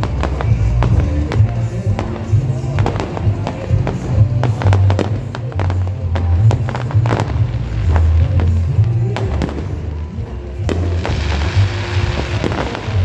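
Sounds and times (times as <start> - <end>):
fireworks bangs and crackles: 0.0 - 13.0
music with heavy bass: 0.0 - 13.0.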